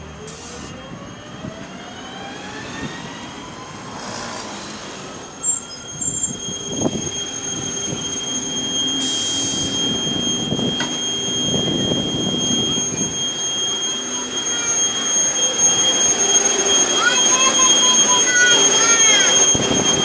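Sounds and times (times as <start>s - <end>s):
bus pulling away with whine: 0.0s - 20.0s.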